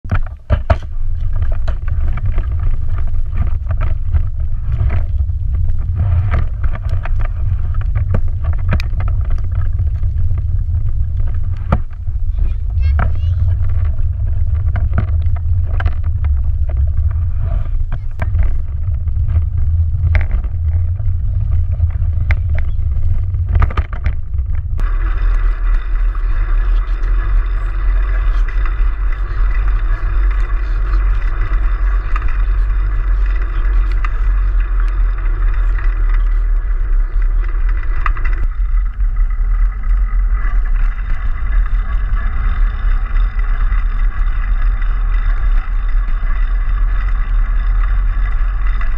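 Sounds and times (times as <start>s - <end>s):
wheels rolling over paving stones: 0.0s - 48.9s.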